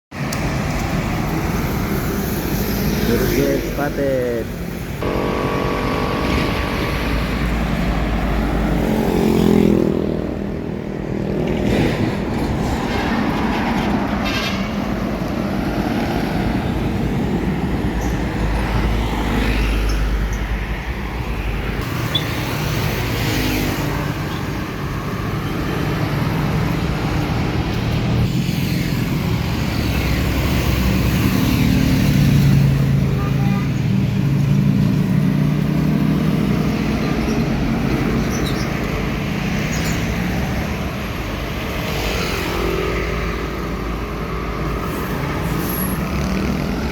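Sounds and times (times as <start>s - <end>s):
tyre and road noise: 0.1s - 46.9s
trucks passing: 0.2s - 46.9s.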